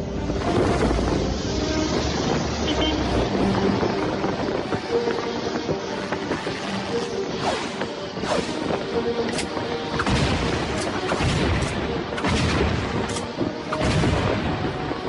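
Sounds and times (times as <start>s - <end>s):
heavy booming rumbles: 0.0s - 5.0s, 7.8s - 15.0s
background music: 0.0s - 15.0s.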